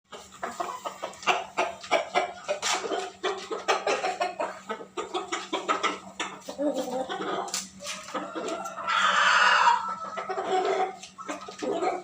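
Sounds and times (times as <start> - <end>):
chickens clucking: 0.1 - 12.0.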